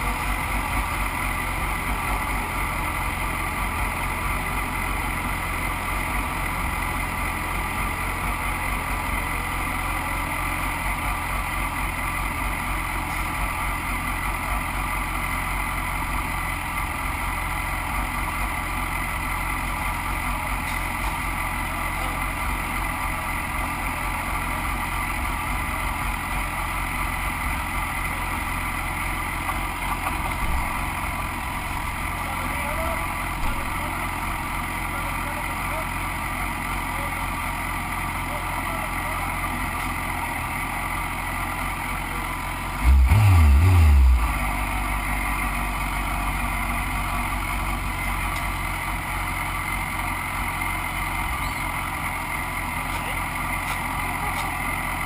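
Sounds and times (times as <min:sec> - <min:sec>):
motorcycle engines rumbling: 0:00.0 - 0:55.0.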